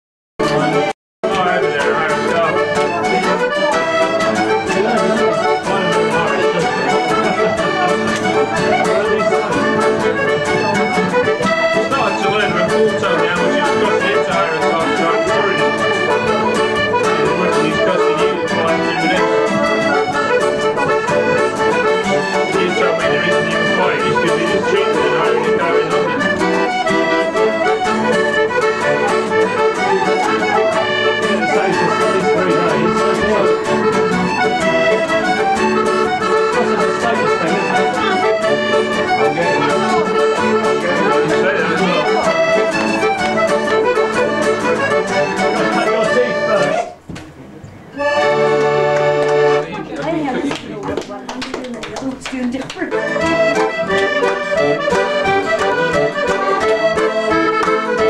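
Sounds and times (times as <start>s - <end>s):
accordion playing a tune: 0.4s - 47.0s, 47.9s - 58.0s
acoustic guitar: 0.4s - 58.0s.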